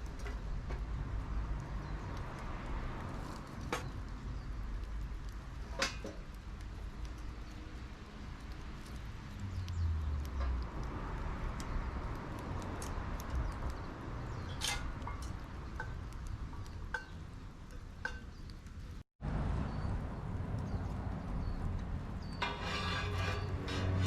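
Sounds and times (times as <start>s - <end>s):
low fire rumble: 0.0s - 24.0s
wood fire crackling: 0.0s - 24.0s.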